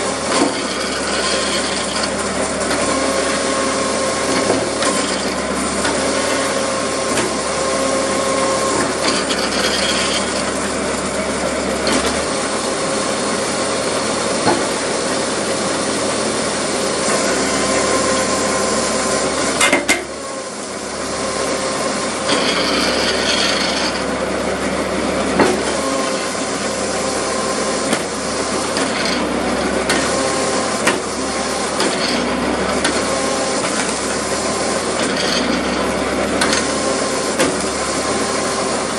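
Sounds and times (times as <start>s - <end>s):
hydraulic wood splitter drone: 0.0s - 38.9s
pump hum: 0.0s - 38.9s.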